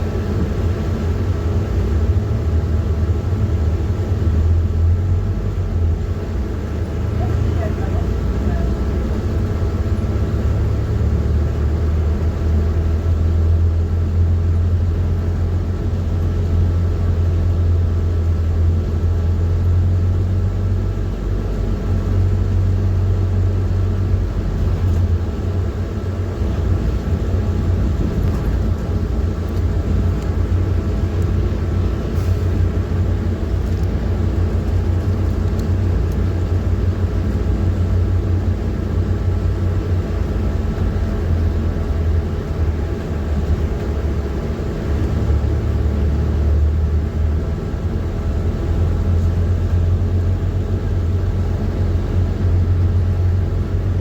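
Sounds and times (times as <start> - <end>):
bus diesel engine drone: 0.0 - 54.0
road noise: 0.0 - 54.0.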